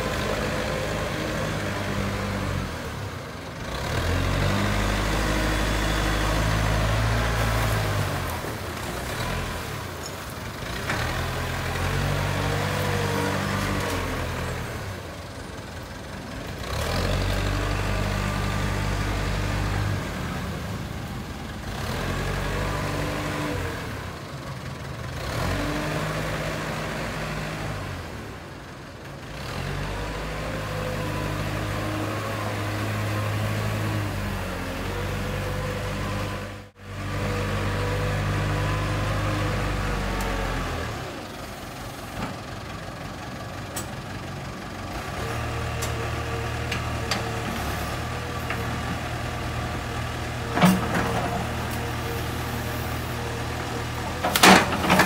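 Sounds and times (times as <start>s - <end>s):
diesel engine working under load: 0.0s - 55.0s.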